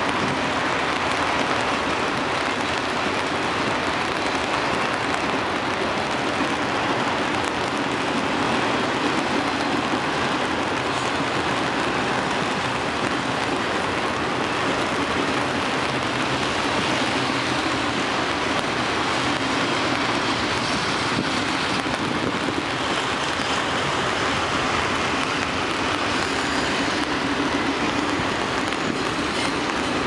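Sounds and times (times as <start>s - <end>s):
freight train rolling past: 0.0s - 30.0s
heavy rain hissing: 0.0s - 30.0s.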